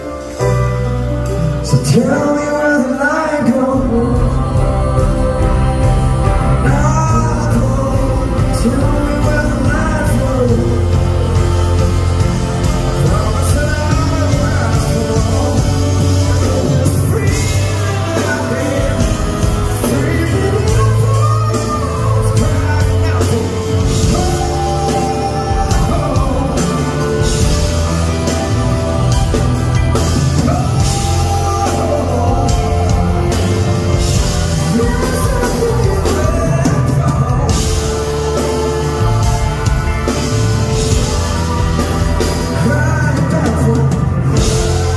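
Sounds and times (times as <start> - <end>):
grand piano playing: 0.0 - 44.9
man singing: 1.2 - 44.9.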